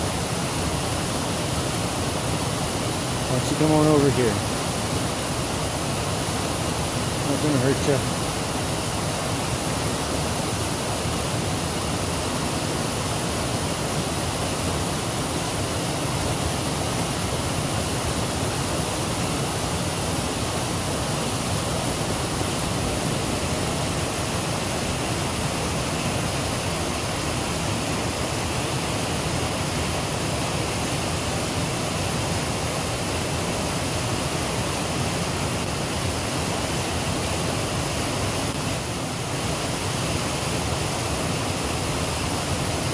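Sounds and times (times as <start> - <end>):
creek water flowing: 0.0 - 42.9.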